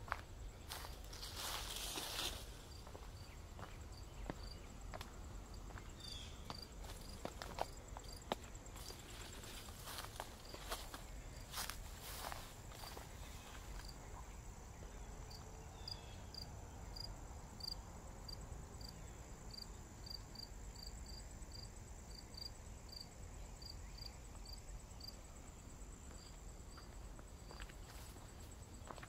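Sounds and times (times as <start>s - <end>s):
cricket chirps: 0.0s - 29.0s
crickets trilling: 0.0s - 29.0s.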